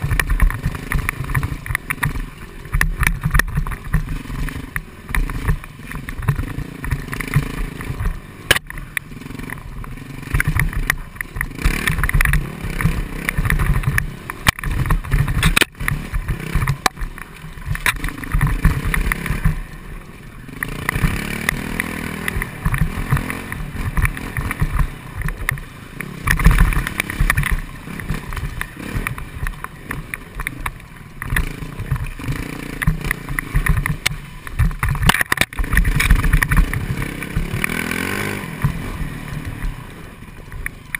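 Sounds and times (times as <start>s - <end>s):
bike rattles and knocks: 0.0s - 40.9s
dirt bike engine surging: 0.0s - 40.9s.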